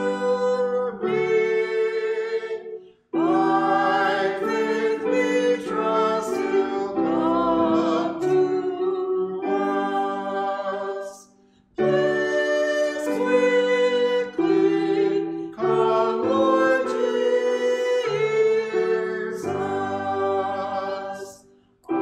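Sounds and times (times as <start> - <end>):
piano accompaniment: 0.0 - 22.0
two voices singing a hymn: 0.0 - 22.0.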